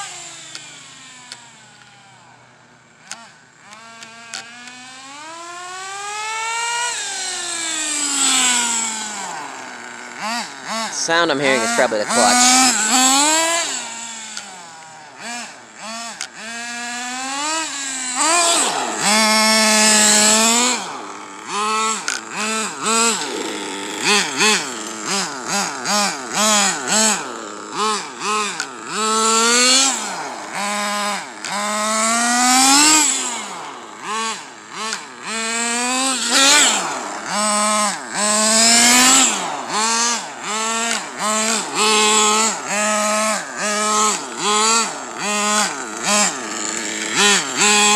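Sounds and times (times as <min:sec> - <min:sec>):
clutch noise: 0:00.0 - 0:05.3, 0:06.8 - 0:47.9
nitro engine revving: 0:00.0 - 0:47.9.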